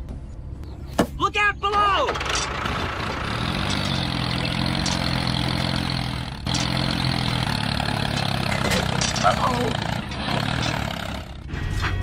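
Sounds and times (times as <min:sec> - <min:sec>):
tractor engine running: 0:01.7 - 0:11.6.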